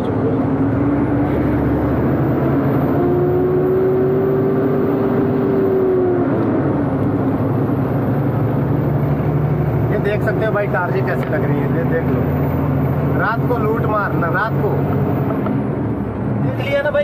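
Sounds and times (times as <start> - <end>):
truck engine from inside cab: 0.0 - 17.0.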